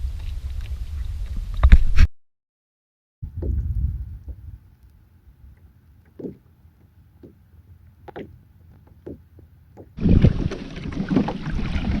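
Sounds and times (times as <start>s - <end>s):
water noise: 0.0s - 2.0s, 3.2s - 12.0s.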